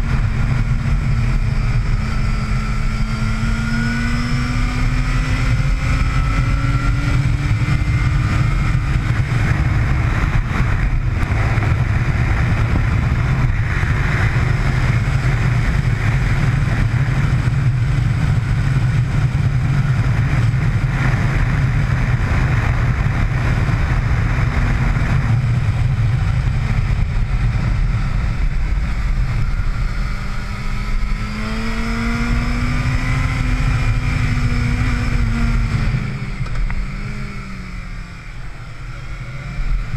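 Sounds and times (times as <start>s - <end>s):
low rush of wind: 0.0s - 39.9s
motorcycle engine: 0.0s - 39.9s.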